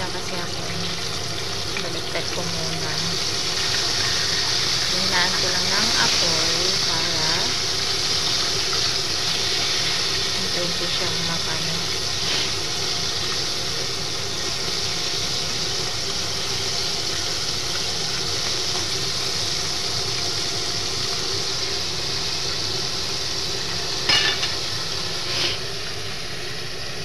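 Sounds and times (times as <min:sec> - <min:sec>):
chicken deep-frying in oil: 0:00.0 - 0:27.0.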